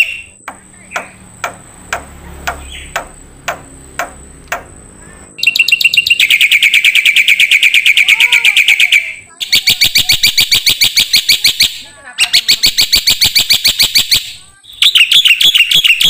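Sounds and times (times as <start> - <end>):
songbird clicking and trilling: 0.0 - 4.8, 5.4 - 16.0.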